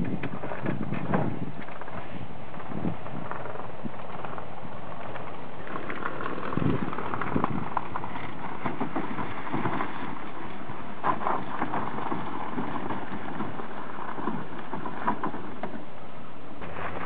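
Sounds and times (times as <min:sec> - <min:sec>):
steady rushing noise: 0:00.0 - 0:17.0
wheels crunching over gravel: 0:00.0 - 0:17.0.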